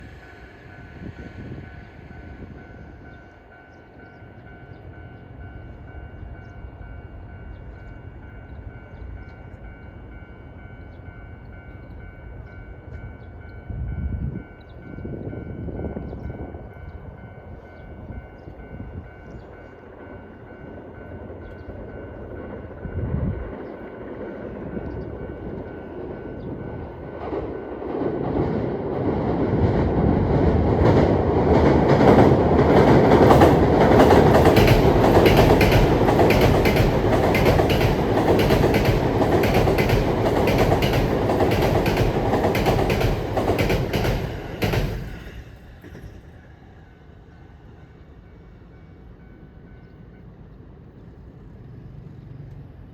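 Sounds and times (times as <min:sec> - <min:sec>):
electric train approaching: 0:00.0 - 0:52.9.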